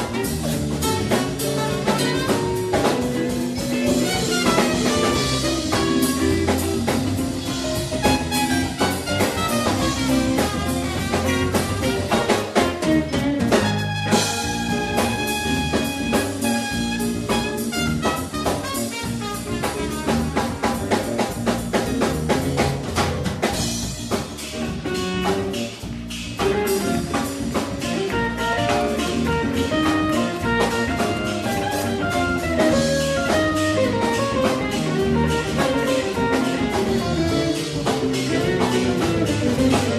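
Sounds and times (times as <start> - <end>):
trumpet lead: 0.0 - 21.0, 27.8 - 39.9
live jazz band playing: 0.0 - 39.9.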